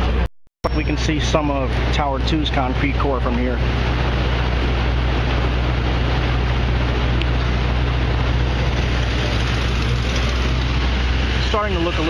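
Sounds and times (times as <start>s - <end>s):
city street traffic: 0.0s - 12.0s
low drone: 0.0s - 12.0s.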